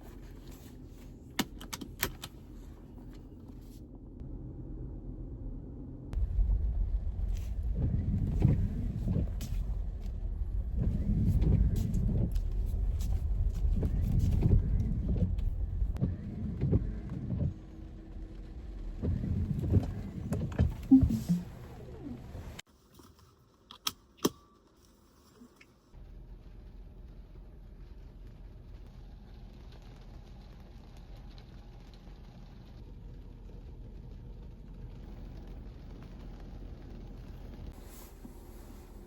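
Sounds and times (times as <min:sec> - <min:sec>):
car rumbling in motion: 0:00.0 - 0:22.7, 0:26.0 - 0:39.0.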